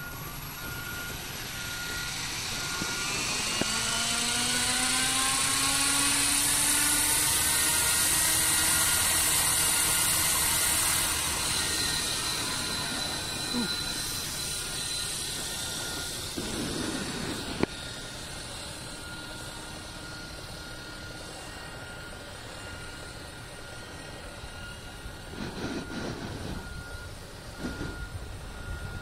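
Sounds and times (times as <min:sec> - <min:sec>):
faint high whine: 0:00.0 - 0:29.0
helicopter rotor hum: 0:00.0 - 0:29.0.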